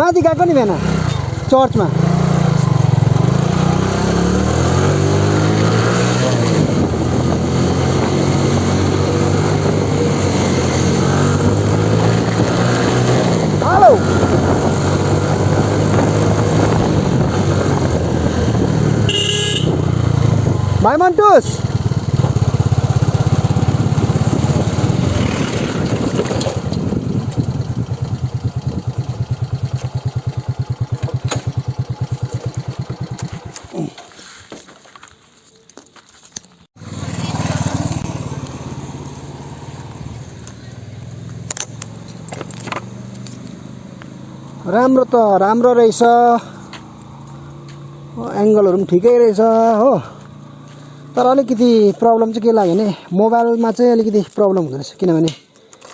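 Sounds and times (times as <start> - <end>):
motorcycle engine running: 0.0 - 34.0, 36.8 - 52.2.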